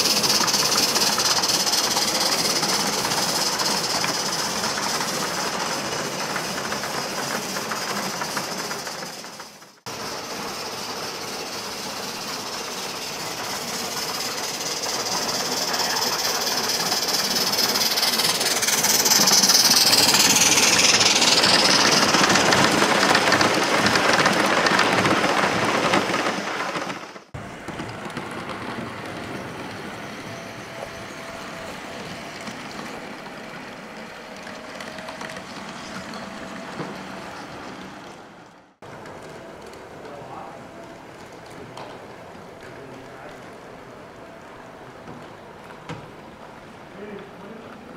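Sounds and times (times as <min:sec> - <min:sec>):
model train wheels rumbling: 0:00.0 - 0:47.9
small train rolling: 0:00.0 - 0:47.9.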